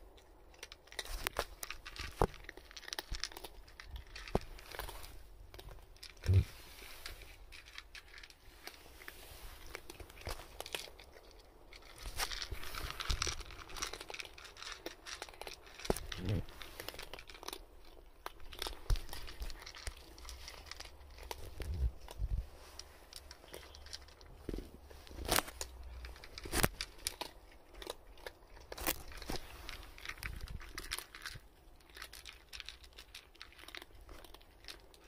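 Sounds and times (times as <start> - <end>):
cats crunching dry kibble: 0.0 - 35.0.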